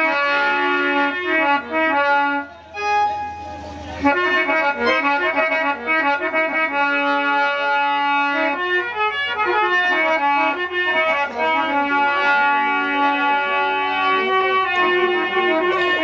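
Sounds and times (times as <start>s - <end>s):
keyboard melody: 0.0s - 16.0s.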